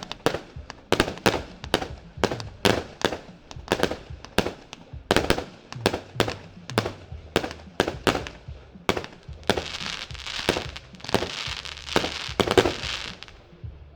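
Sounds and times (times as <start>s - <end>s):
fireworks crackling hiss: 0.0s - 13.9s
fireworks reports: 0.0s - 13.9s.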